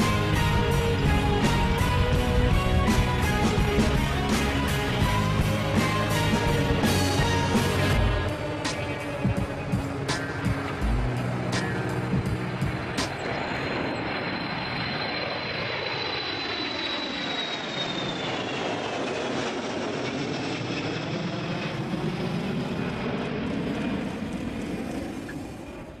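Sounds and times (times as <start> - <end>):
jet engines flying overhead: 0.0 - 26.0.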